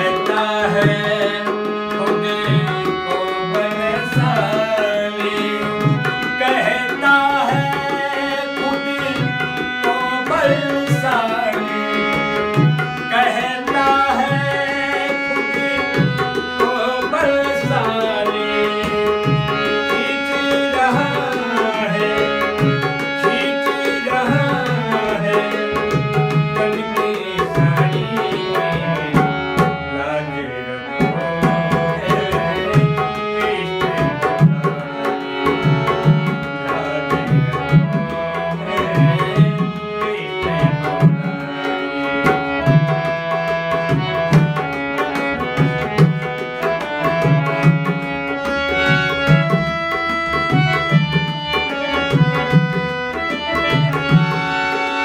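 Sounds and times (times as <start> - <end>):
tabla rhythm: 0.0 - 55.0.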